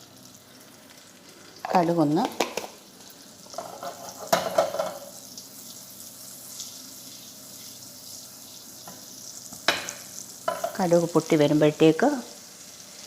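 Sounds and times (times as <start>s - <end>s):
oil sizzling in a pan: 0.0s - 13.0s
seeds crackling in hot oil: 0.0s - 13.0s.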